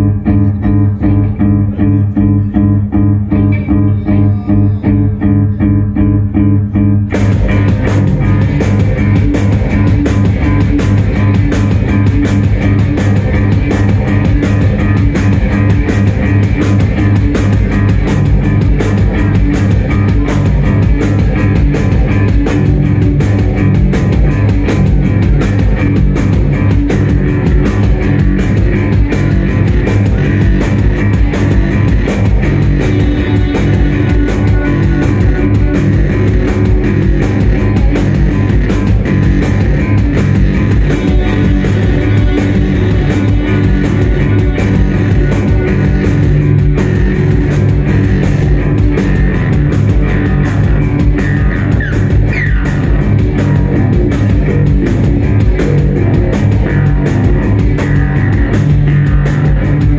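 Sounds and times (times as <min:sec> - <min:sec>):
loud live band music: 0:00.0 - 0:59.9.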